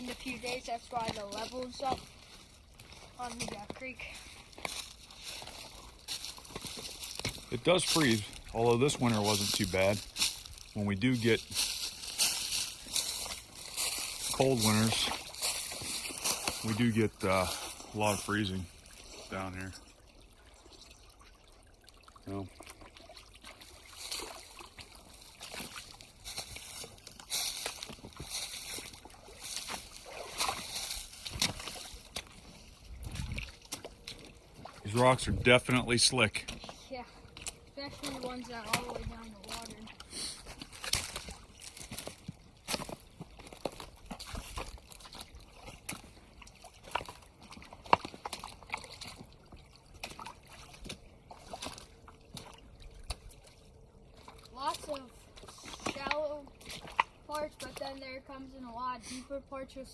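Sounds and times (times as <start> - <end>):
footsteps wading through creek water: 0.0 - 59.9.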